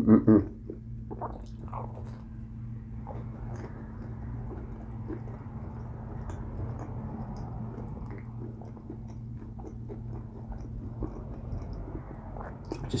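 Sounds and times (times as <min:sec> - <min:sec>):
steady low hum: 0:00.0 - 0:13.0
man chewing food: 0:00.4 - 0:13.0.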